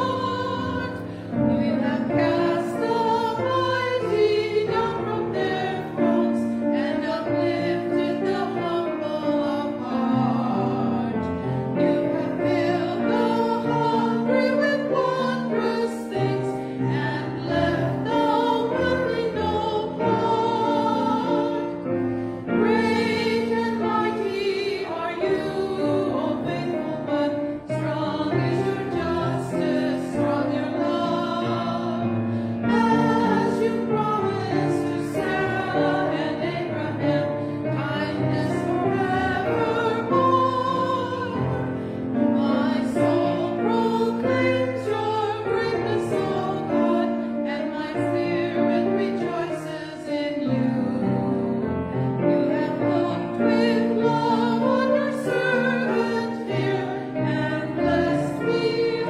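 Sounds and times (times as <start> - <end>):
women singing liturgy: 0.0 - 59.0.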